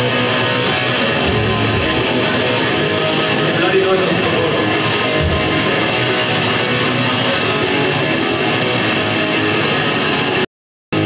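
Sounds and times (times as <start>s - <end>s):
rock band playing live: 0.0s - 10.4s.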